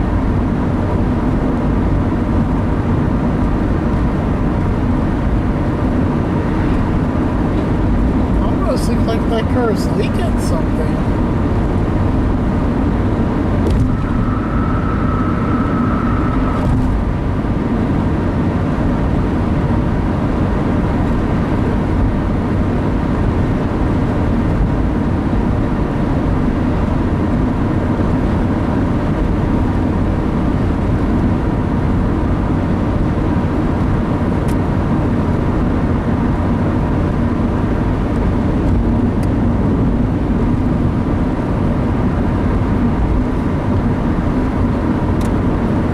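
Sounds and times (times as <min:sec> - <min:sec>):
car road and engine noise: 0:00.0 - 0:45.9.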